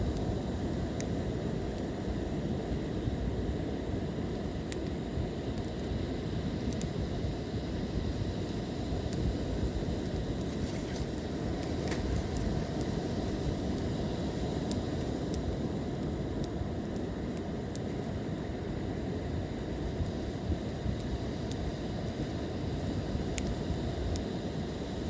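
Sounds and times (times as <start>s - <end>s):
fire crackles and pops: 0.0s - 25.0s
wood fire rumble: 0.0s - 25.0s.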